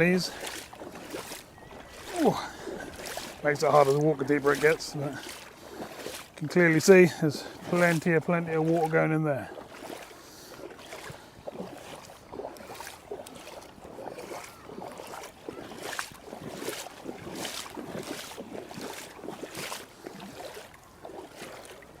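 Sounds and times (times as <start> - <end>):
wading through water: 0.0 - 22.0.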